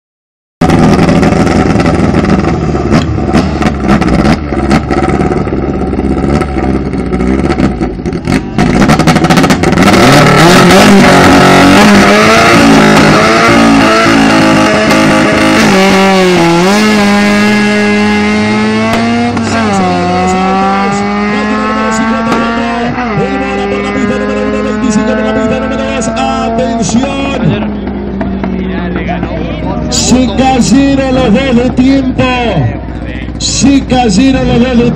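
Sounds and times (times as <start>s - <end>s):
car engines revving and accelerating: 0.6s - 34.9s.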